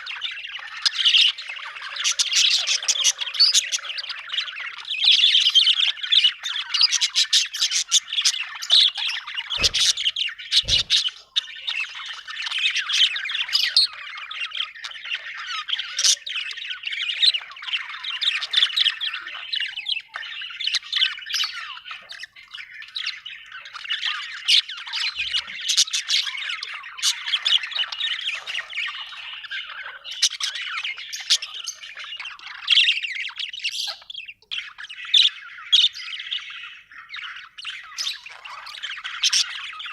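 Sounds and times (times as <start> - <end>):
budgerigar chirping and chattering: 0.0 - 39.9.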